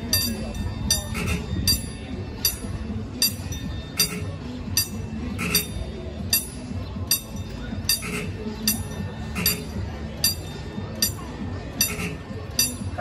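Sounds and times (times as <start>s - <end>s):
locomotive bell ringing: 0.0s - 13.0s.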